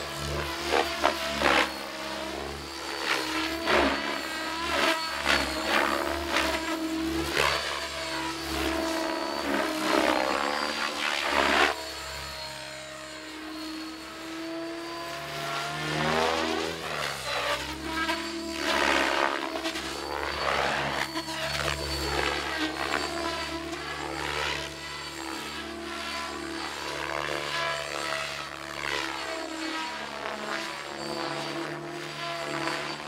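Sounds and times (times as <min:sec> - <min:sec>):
helicopter steady hum: 0:00.0 - 0:33.0
rc helicopter rotor chopping: 0:00.0 - 0:33.0.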